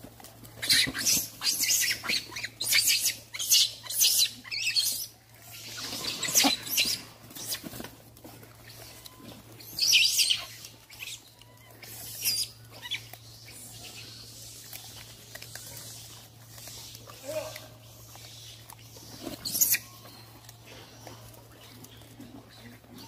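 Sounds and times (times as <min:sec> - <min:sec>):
monkeys squeaking and chirping: 0:00.6 - 0:07.9, 0:08.5 - 0:20.6.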